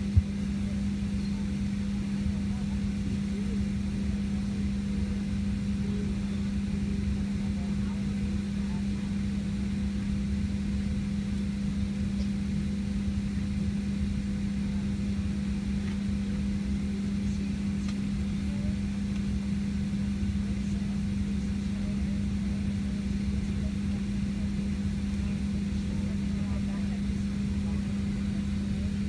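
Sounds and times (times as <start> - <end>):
aircraft cabin ventilation drone: 0.0 - 29.0.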